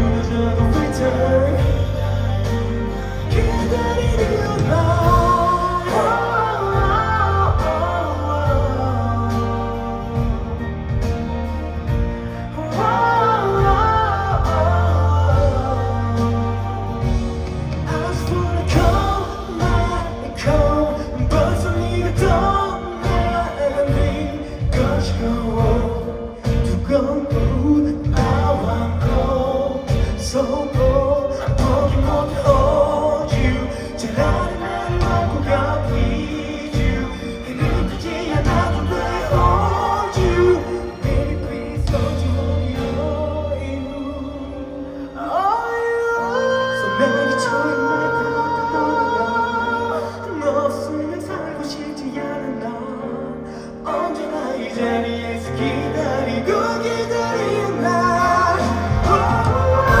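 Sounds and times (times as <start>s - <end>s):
live band accompaniment: 0.0s - 60.0s
man singing: 0.0s - 60.0s.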